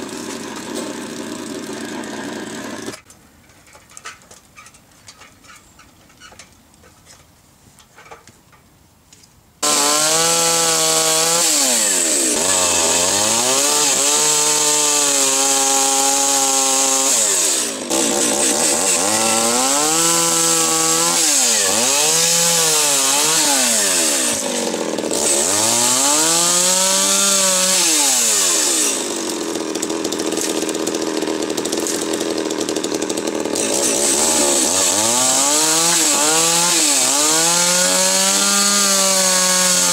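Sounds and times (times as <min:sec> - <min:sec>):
chainsaw cutting wood: 0:00.0 - 0:03.1, 0:09.6 - 0:39.9.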